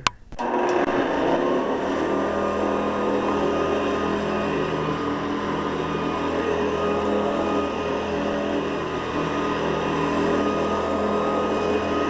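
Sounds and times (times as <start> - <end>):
upright vacuum cleaner running: 0.4 - 12.0.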